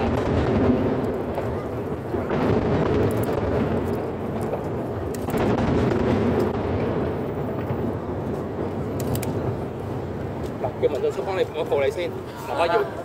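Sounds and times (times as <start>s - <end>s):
distant fireworks booming: 0.0s - 12.3s.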